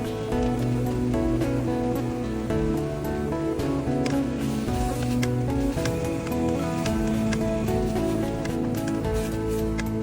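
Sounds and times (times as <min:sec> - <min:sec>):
instrumental music with light percussion: 0:00.0 - 0:10.0.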